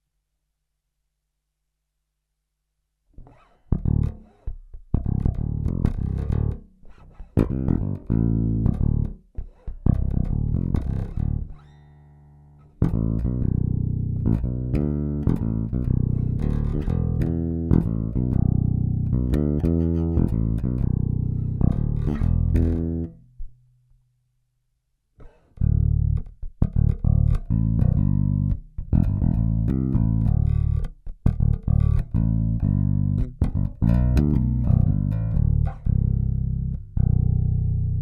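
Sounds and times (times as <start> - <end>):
electric bass notes: 3.2 - 23.6, 25.2 - 38.0.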